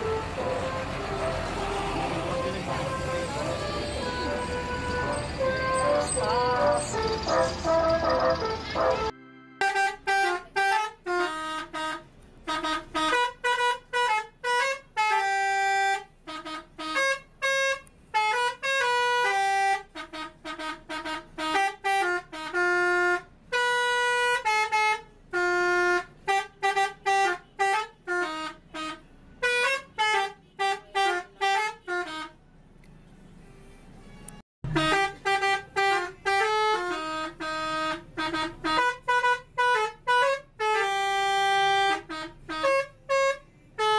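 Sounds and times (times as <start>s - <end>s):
truck air horn melody: 0.0s - 32.4s, 34.1s - 43.9s.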